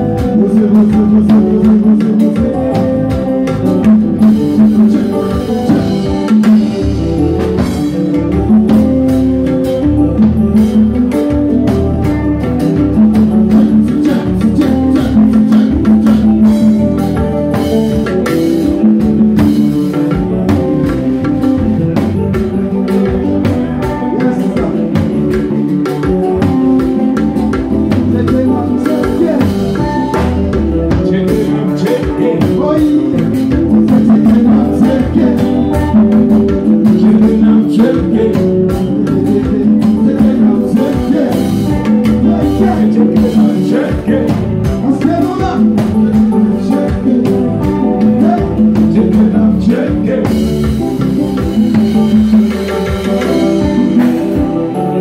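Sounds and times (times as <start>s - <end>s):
person singing: 0.0s - 52.0s
live band dance music: 0.0s - 55.0s.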